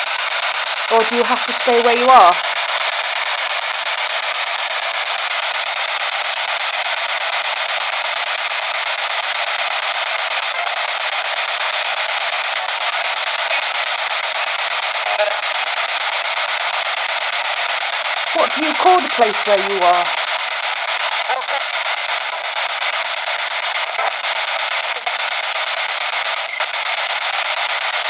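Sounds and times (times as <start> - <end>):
radio static hiss: 0.0 - 28.0.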